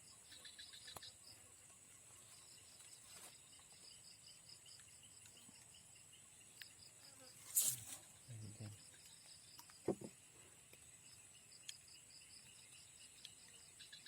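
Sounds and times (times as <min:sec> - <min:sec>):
insect chirps and buzz: 0:00.0 - 0:14.0.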